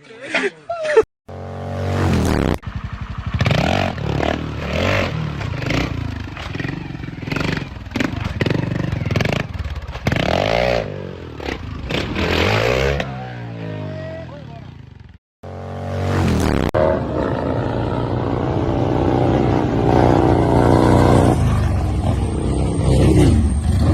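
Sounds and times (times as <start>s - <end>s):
motorcycle engine revving: 1.3s - 23.9s.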